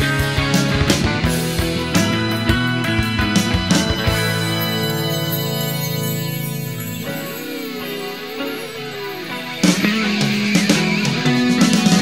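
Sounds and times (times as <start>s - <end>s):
electric guitar chords: 0.0s - 12.0s
steady drum beat: 0.0s - 12.0s.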